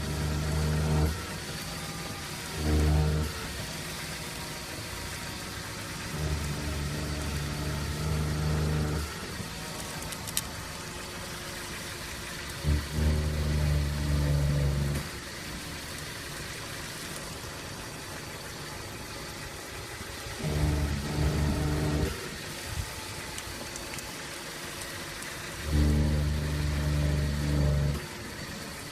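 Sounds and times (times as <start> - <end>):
low droning hum: 0.0 - 28.9.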